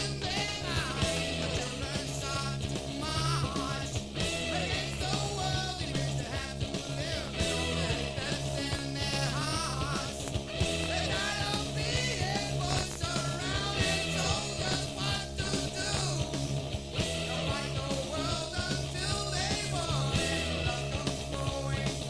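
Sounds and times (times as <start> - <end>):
bass line: 0.0 - 22.0
rock music with singing: 0.0 - 22.0.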